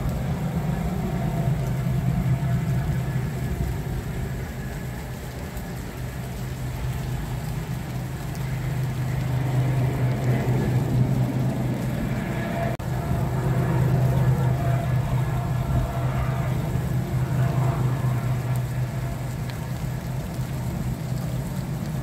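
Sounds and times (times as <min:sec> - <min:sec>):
gentle rain falling: 0:00.0 - 0:22.0
low motor hum: 0:00.0 - 0:22.0.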